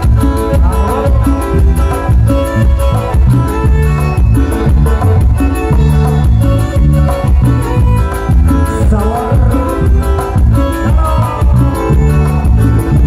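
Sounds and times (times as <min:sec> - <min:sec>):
guitar: 0:00.0 - 0:13.0
live band playing latin dance music: 0:00.0 - 0:13.0
percussion: 0:00.0 - 0:13.0
steady bass line: 0:00.0 - 0:13.0.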